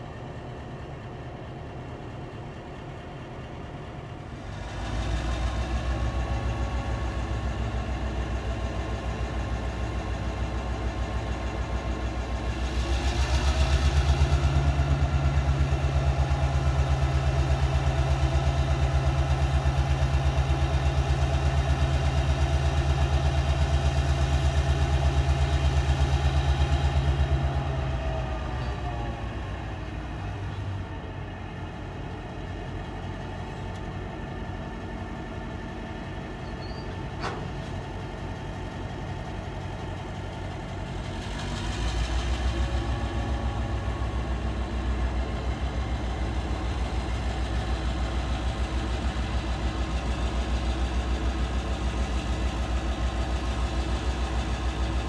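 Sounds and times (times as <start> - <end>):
locomotive engine idling and revving: 0.0 - 55.0.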